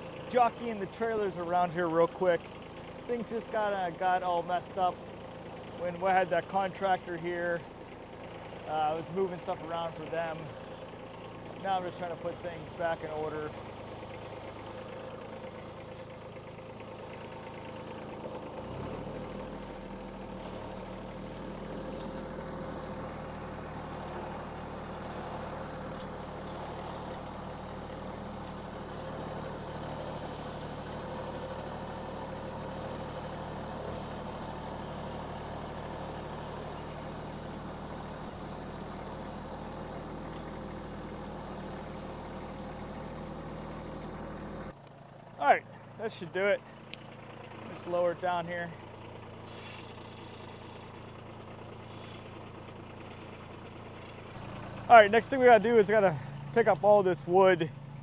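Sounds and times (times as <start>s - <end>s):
deeper engine note: 0.0s - 58.0s
vehicle engine running: 0.0s - 58.0s.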